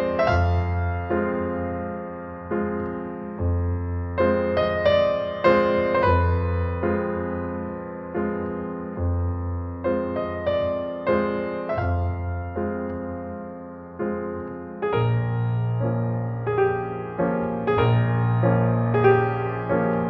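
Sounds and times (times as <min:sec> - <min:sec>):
slow piano-like keyboard notes: 0:00.0 - 0:20.0.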